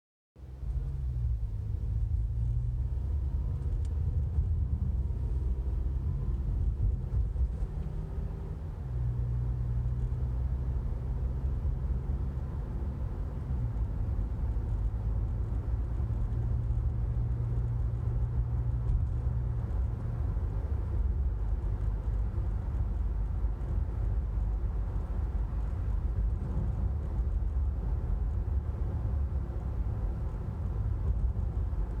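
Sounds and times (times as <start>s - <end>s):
low mechanical engine drone: 0.5s - 32.0s.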